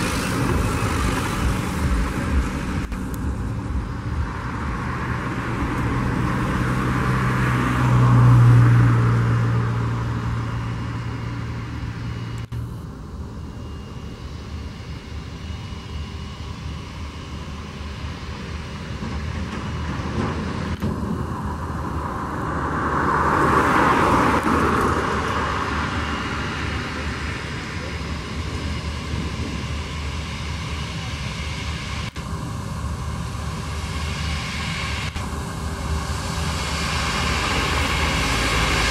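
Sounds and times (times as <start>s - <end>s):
jet engines running: 0.0s - 38.9s
low steady hum: 0.0s - 38.9s.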